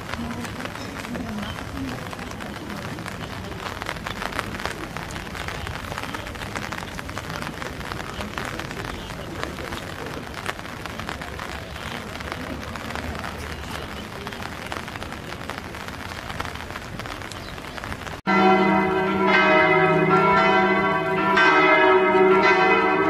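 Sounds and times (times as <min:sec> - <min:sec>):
rain drops ticking: 0:00.0 - 0:23.0
steady rain: 0:00.0 - 0:23.0.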